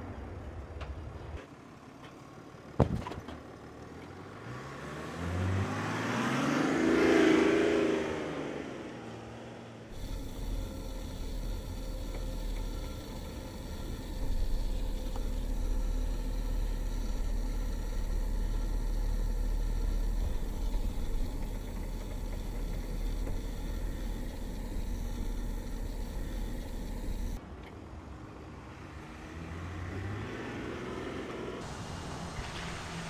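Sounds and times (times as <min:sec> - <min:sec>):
engine and road rumble: 0:00.0 - 0:33.0.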